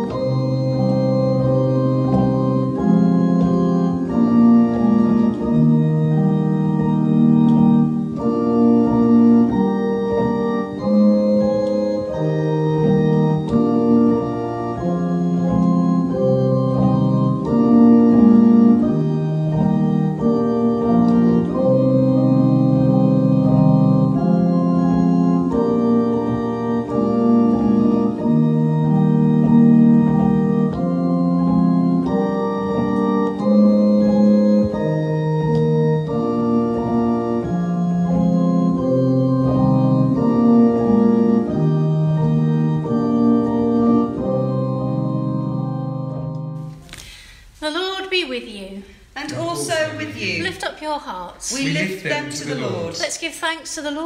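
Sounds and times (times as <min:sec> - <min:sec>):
organ playing sustained chords: 0:00.0 - 0:46.8, 0:49.3 - 0:50.6, 0:51.5 - 0:53.1.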